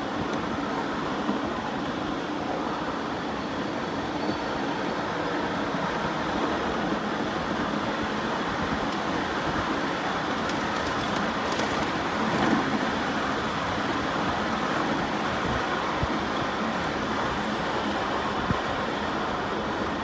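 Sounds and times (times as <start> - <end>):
miniature train rolling on rails: 0.0 - 20.0.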